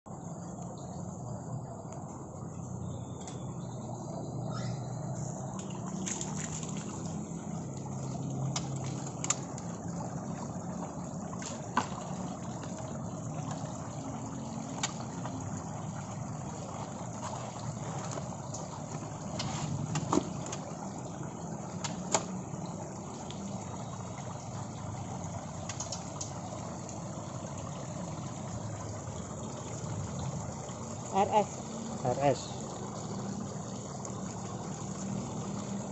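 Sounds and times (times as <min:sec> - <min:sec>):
fountain water trickling: 0:00.1 - 0:35.9.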